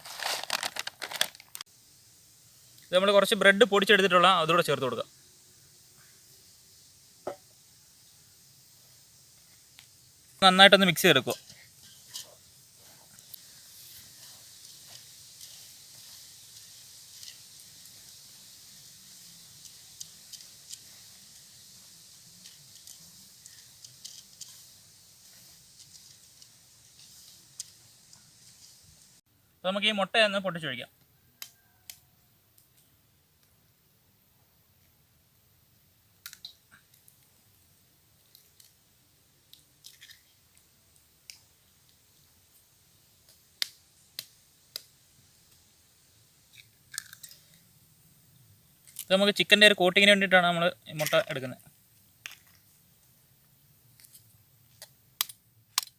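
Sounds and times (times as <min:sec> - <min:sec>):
steady hiss: 0:00.0 - 0:55.9.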